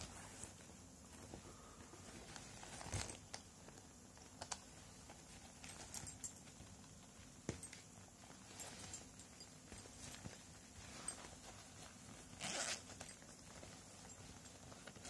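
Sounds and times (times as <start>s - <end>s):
backpack material rustling: 0.0s - 15.0s.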